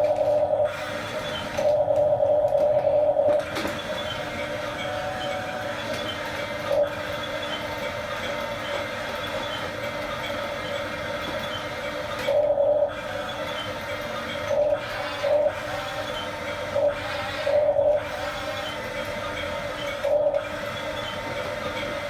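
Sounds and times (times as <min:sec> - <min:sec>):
toy electric motor whining: 0:00.0 - 0:22.0.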